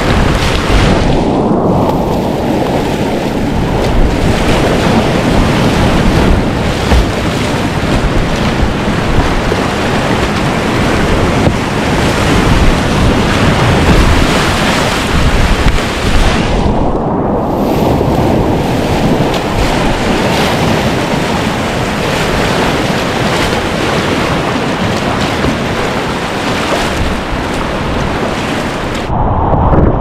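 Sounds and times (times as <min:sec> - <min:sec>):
wind noise on microphone: 0:00.0 - 0:30.0
rushing river whitewater: 0:02.0 - 0:16.6, 0:18.5 - 0:29.1.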